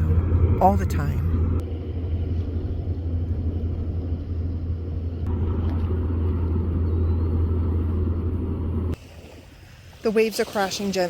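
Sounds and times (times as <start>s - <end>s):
ocean waves rumbling: 0.0s - 11.0s.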